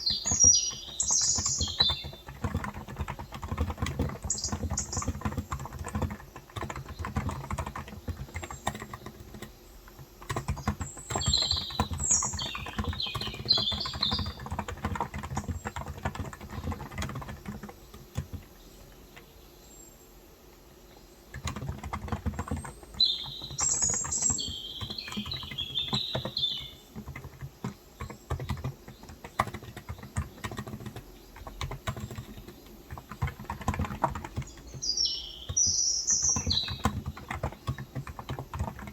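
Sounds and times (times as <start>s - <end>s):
soft keyboard keystrokes: 0.0s - 19.4s, 21.3s - 38.9s
birds chirping: 0.0s - 38.9s.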